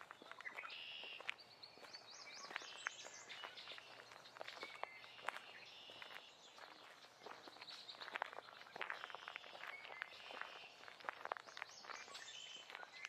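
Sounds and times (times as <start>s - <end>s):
footsteps on forest floor: 0.0s - 13.0s
songbirds singing faintly: 0.0s - 13.0s.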